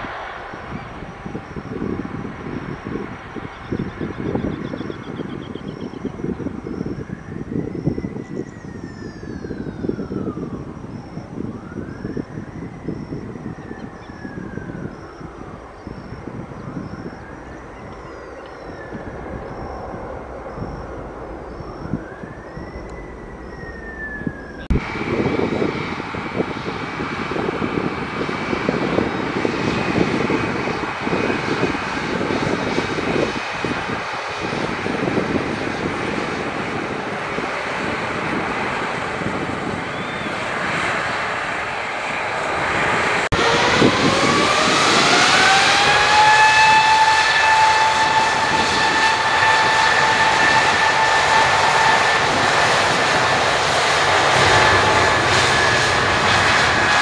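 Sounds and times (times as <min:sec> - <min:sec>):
jet engine whine: 0:00.0 - 0:57.0
jet engines roaring: 0:00.0 - 0:57.0.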